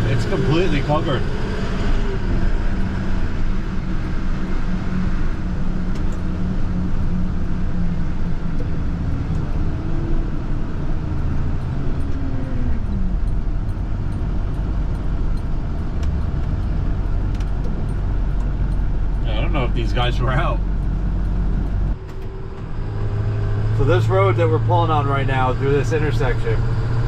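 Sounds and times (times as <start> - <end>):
truck engine heard from cab: 0.0 - 27.0.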